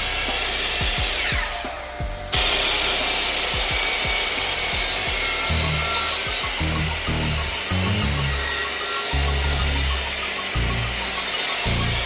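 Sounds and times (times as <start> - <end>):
background music with bass: 0.0 - 12.0
mitre saw cutting wood: 0.0 - 12.0.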